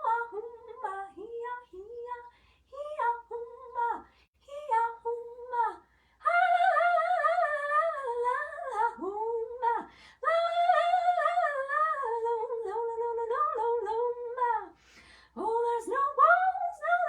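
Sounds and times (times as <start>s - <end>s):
woman singing wordless melody: 0.0s - 17.0s.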